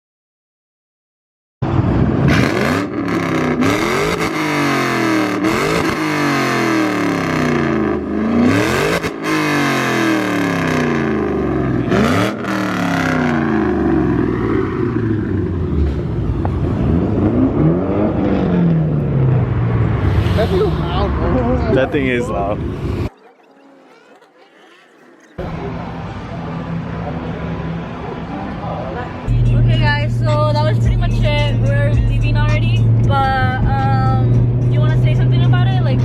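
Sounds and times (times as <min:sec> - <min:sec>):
car engine revving: 0:01.6 - 0:36.0.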